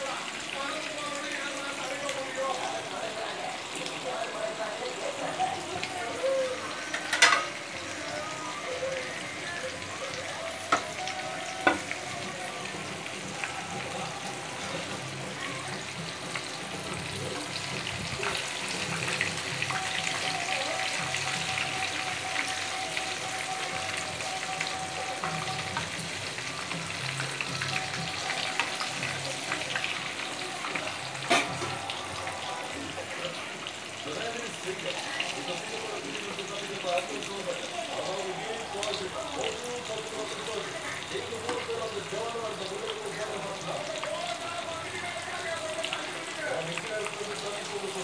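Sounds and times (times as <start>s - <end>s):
oil sizzling while deep-frying: 0.0s - 48.0s.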